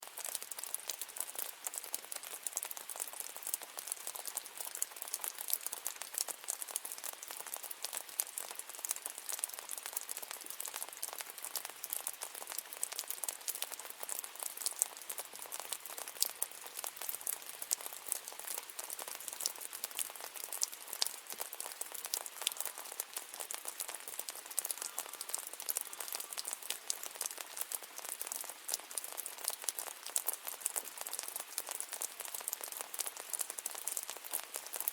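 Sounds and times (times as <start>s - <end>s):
steady rain patter: 0.0s - 34.9s.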